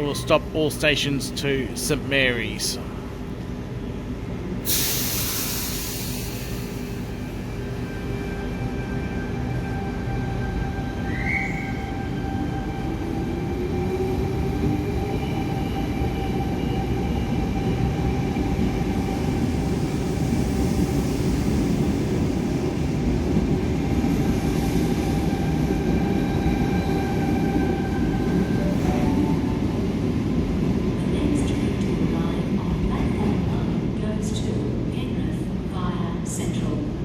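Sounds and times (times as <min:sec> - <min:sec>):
electric train rumbling on rails: 0:00.0 - 0:37.0.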